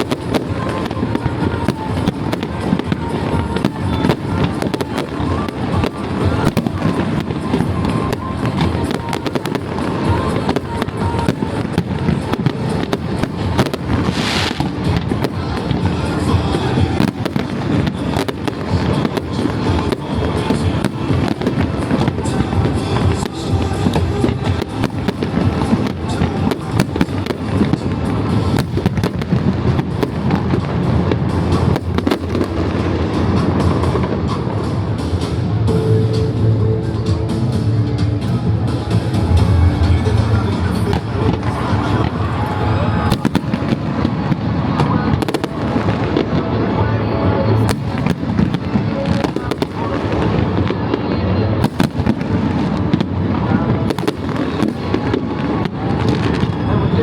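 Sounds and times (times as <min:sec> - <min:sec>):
fireworks cracking and banging: 0:00.0 - 0:57.0
music playing: 0:00.0 - 0:57.0.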